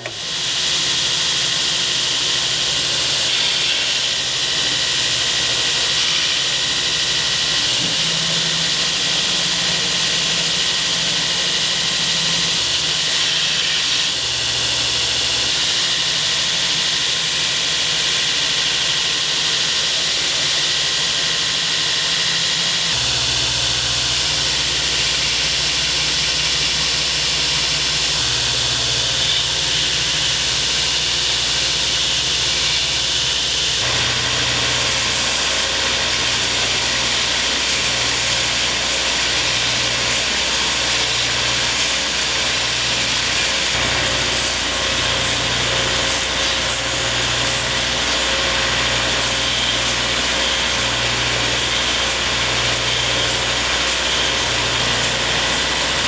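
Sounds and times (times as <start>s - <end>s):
belt grinder grinding metal: 0.0s - 56.0s.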